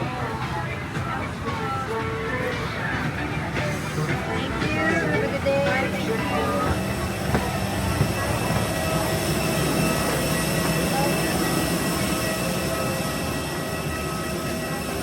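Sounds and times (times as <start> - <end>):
steady mechanical rumble: 0.0 - 15.0
voices murmuring: 0.0 - 15.0.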